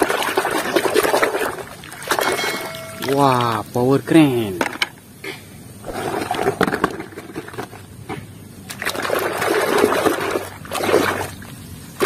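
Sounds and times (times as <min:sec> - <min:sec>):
water sloshing and splashing: 0:00.0 - 0:03.7, 0:05.8 - 0:12.0.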